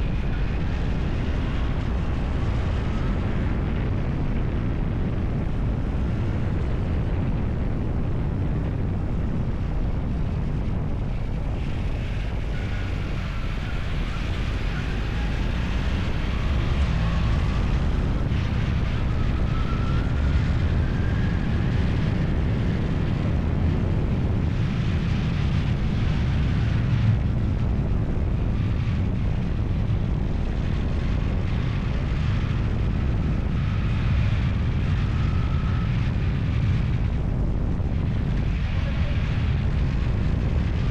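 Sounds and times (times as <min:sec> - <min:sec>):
engine rumbling: 0:00.0 - 0:40.9.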